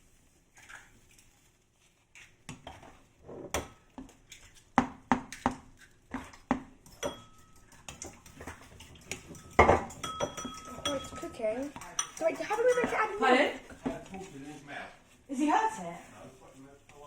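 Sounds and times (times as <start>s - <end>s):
spatula scraping a frying pan: 2.0s - 15.8s.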